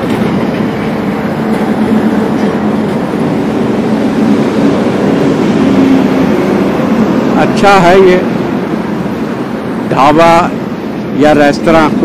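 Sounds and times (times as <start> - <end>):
engine hum: 0.0 - 12.0
rushing road rumble: 0.0 - 12.0.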